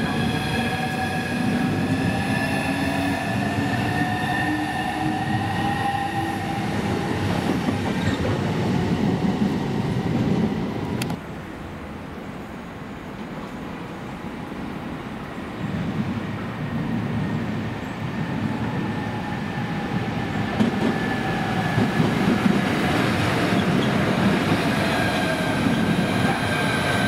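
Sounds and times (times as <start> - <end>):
train wheels rumbling on rails: 0.0 - 11.2, 15.5 - 27.0.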